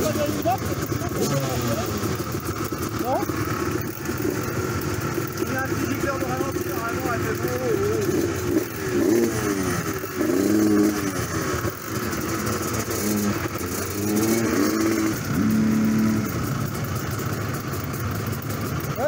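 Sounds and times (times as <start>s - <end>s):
engines idling: 0.0s - 19.0s
motorcycle engine revving: 0.0s - 19.0s.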